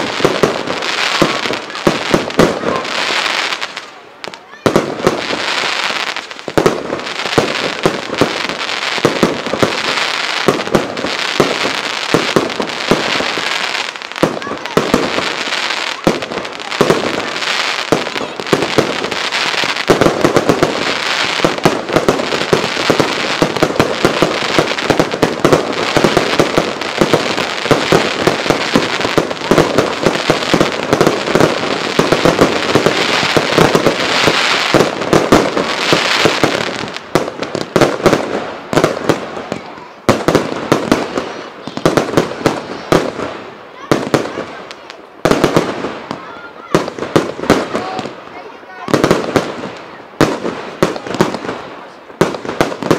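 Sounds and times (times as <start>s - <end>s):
fireworks bursts and bangs: 0.0s - 52.9s.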